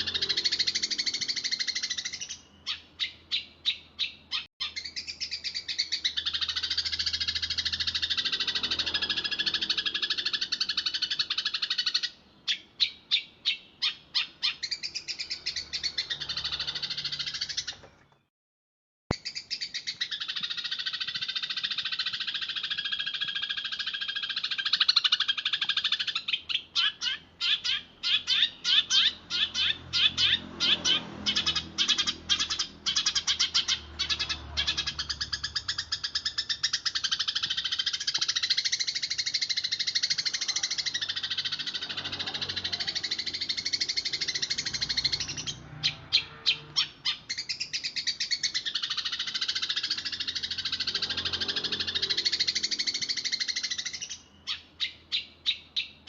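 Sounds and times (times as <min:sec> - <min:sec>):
sparrow chattering: 0:00.0 - 0:17.8, 0:19.1 - 0:56.0.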